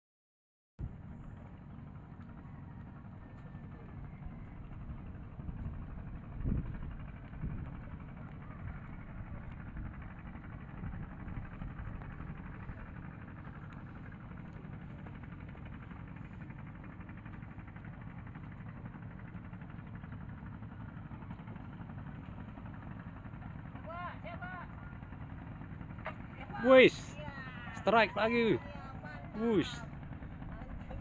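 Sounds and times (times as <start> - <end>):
boat engine running: 0.8 - 31.0.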